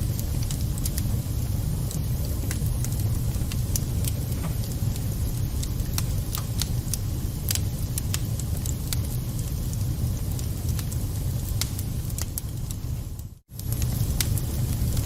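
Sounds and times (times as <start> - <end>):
burning wood crackling and popping: 0.0 - 15.0
fire rumbling in fireplace: 0.0 - 15.0.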